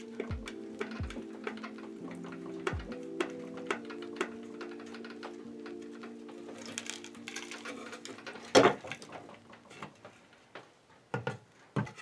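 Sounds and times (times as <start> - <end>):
wood scraping and clicking: 0.0 - 12.0.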